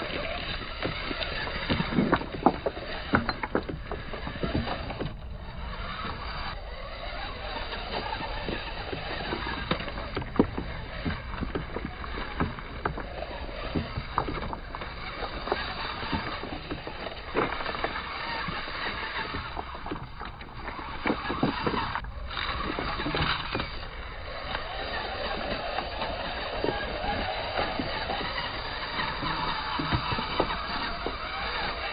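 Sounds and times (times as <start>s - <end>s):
river stones clacking: 0.0s - 31.9s.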